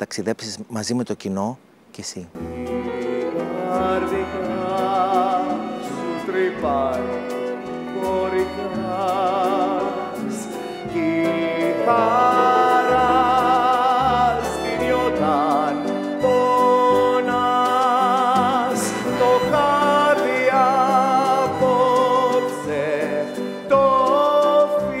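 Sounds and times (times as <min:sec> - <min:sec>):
instrumental accompaniment: 0:02.3 - 0:25.0
man singing with vibrato: 0:02.4 - 0:25.0.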